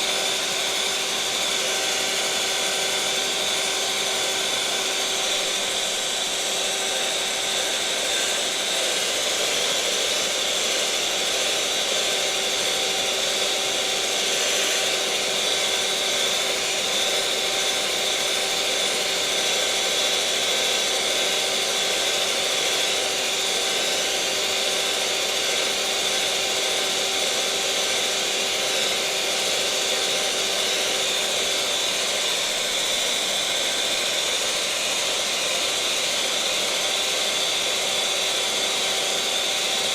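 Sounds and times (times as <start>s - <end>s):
electric mixer motor whirring: 0.0s - 39.9s.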